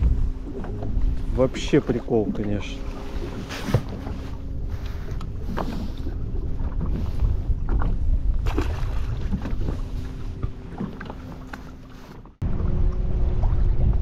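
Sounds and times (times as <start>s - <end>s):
splashes and knocks: 0.0s - 4.3s, 6.6s - 14.0s
wind buffeting microphone: 0.0s - 11.3s, 12.4s - 14.0s
water slapping against boat: 0.0s - 14.0s.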